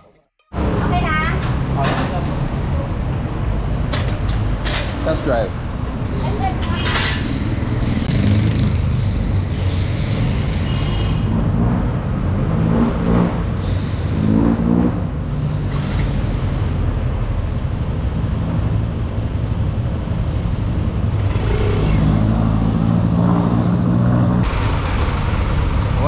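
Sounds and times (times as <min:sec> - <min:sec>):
low road rumble: 0:00.0 - 0:26.0.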